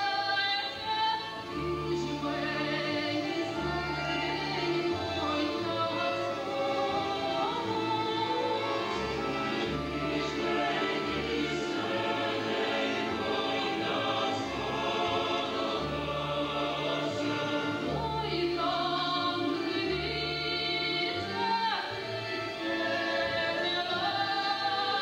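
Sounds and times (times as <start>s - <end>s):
folk choir singing: 0.0s - 25.0s.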